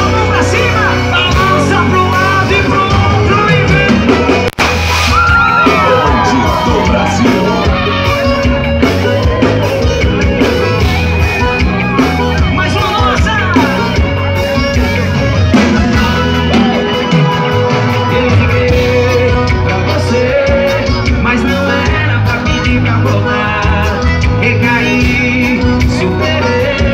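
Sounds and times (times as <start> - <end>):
person singing: 0.0 - 4.5, 5.1 - 26.9
bass guitar: 0.0 - 26.9
drums: 0.0 - 26.9
keyboards: 0.0 - 26.9.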